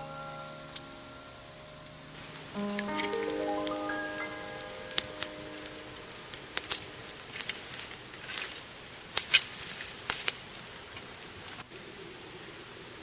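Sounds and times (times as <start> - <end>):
wood bonfire crackling: 0.0 - 13.0.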